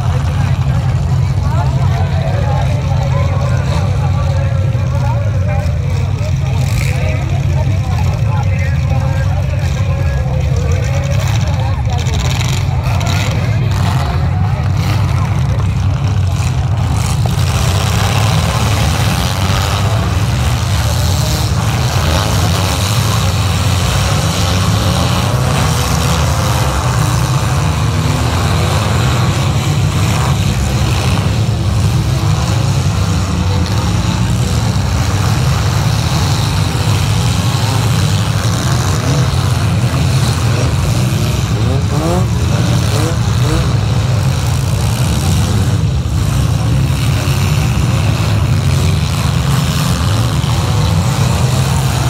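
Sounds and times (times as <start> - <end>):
car engines rumbling and revving: 0.0 - 52.0.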